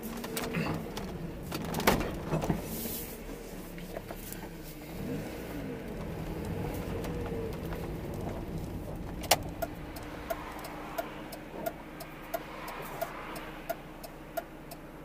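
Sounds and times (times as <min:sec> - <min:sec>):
car engine at low speed: 0:00.0 - 0:15.0.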